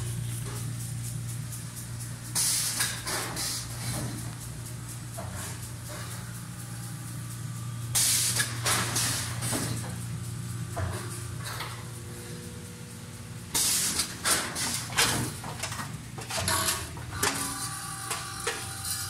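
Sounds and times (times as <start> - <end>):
air hiss: 0.0 - 15.6
low machine hum: 0.0 - 19.0.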